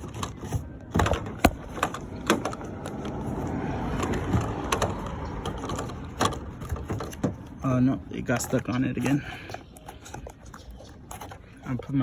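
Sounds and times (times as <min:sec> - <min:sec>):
plastic rubbing and scraping: 0:00.0 - 0:12.0.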